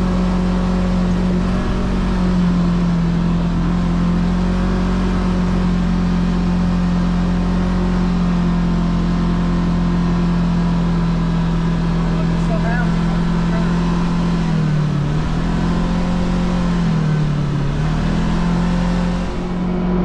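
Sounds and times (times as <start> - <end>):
utility vehicle engine droning: 0.0 - 20.0.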